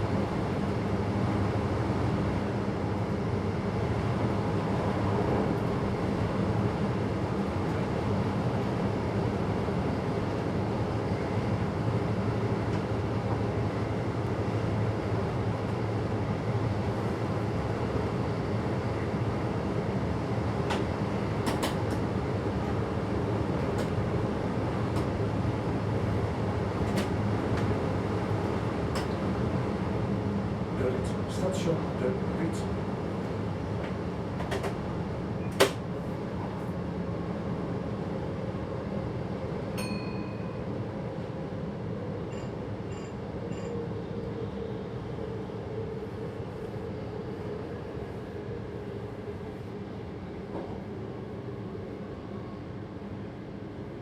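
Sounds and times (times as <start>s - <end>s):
train rumble and hiss: 0.0s - 54.0s.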